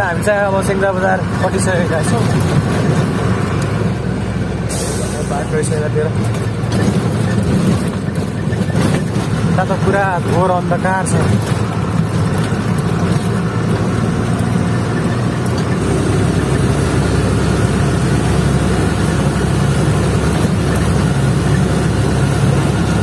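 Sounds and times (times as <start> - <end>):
road noise: 0.0 - 23.0
truck engine droning: 0.0 - 23.0.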